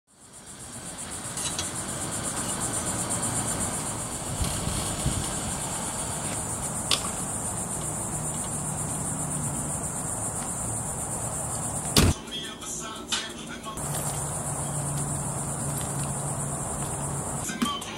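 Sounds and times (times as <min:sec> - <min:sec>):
insects chorus: 0:00.1 - 0:17.9.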